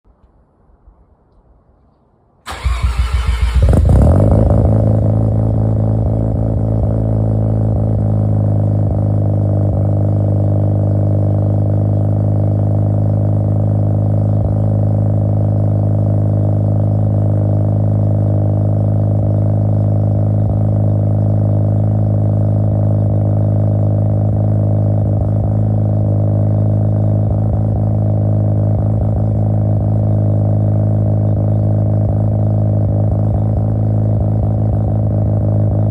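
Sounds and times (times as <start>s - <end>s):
rotary engine revving and idling: 2.5s - 35.9s.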